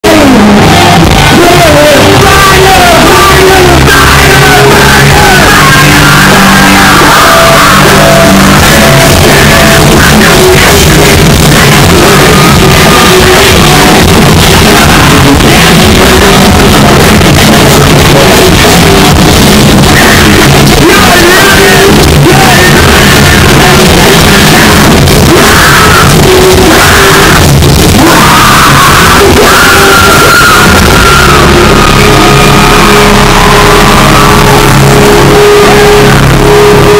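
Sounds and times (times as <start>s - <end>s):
bass guitar: 0.0s - 36.9s
distorted electric guitar: 0.0s - 36.9s
drums: 0.0s - 36.9s
person singing: 0.0s - 36.9s.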